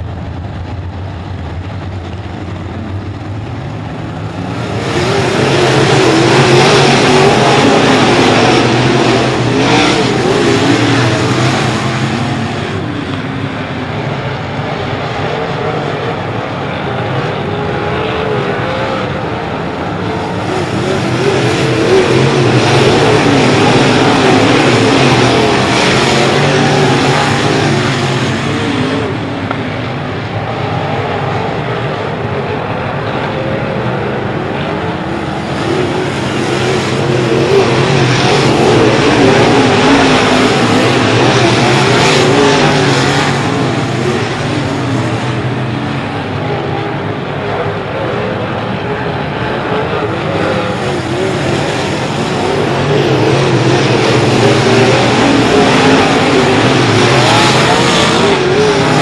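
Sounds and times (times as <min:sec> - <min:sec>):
race car engines wavering: 0:00.0 - 0:59.0.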